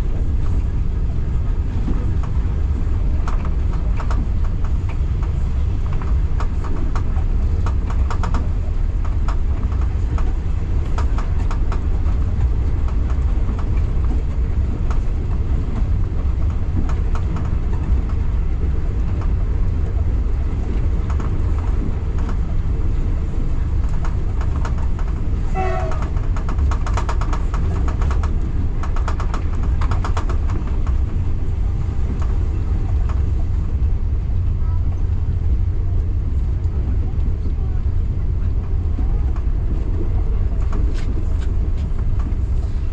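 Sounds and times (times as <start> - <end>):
train rumbling: 0.0 - 42.9
wheels clicking over rail joints: 0.1 - 42.9.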